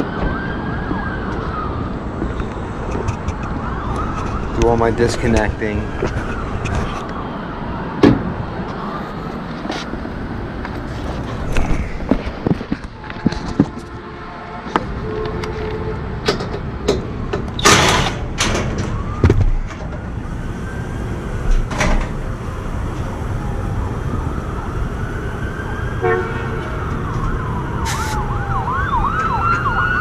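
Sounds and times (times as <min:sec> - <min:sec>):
emergency vehicle siren: 0:00.0 - 0:30.0
steady background noise: 0:00.0 - 0:30.0.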